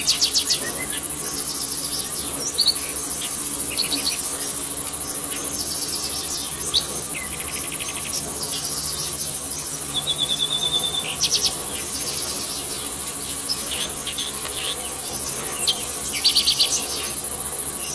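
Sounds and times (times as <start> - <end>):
bird chirps and trills: 0.0 - 17.9
high-pitched insect chorus: 0.0 - 17.9.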